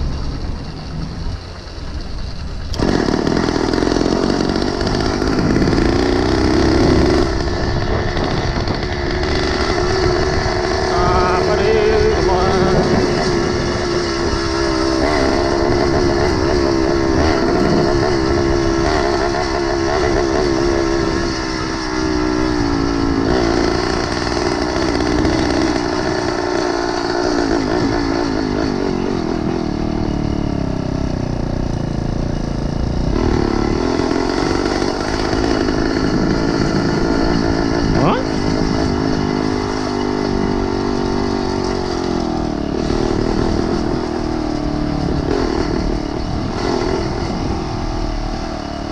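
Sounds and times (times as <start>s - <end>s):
small bicycle engine running: 0.0s - 48.9s.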